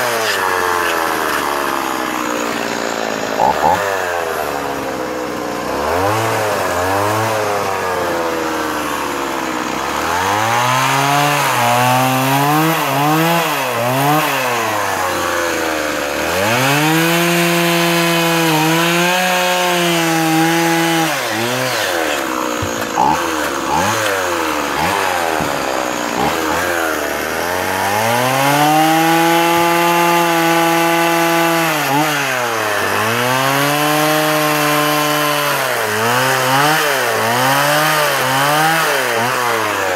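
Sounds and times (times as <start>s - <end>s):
chainsaw revving while cutting wood: 0.0s - 39.9s.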